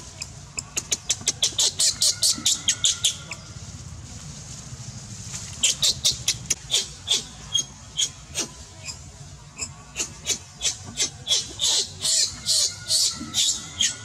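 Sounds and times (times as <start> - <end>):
infant monkey squeaking: 0.1 - 3.2, 5.6 - 14.0.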